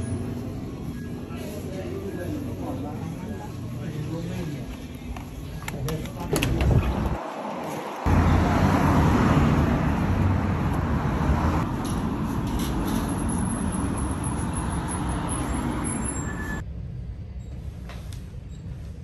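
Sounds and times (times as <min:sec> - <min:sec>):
road traffic rumble: 0:00.0 - 0:18.4.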